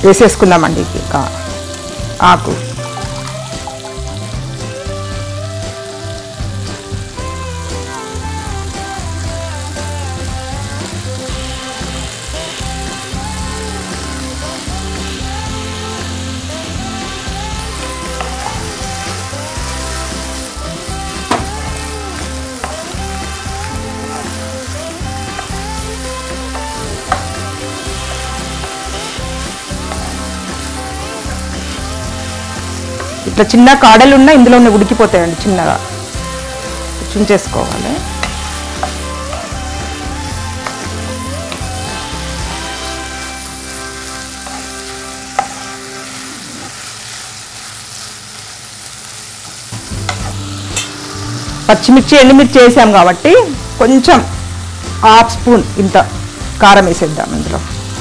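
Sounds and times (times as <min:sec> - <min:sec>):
food sizzling in a pan: 0:00.0 - 0:58.0
soft background music: 0:00.0 - 0:58.0.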